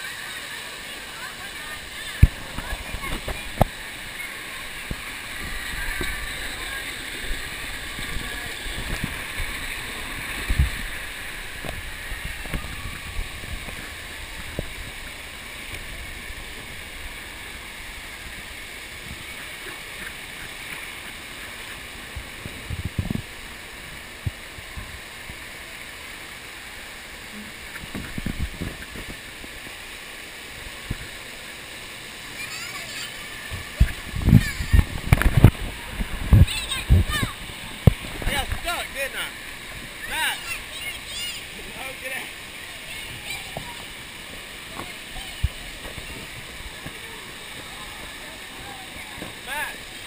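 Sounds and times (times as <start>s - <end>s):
water rushing down a slide: 0.0s - 50.0s.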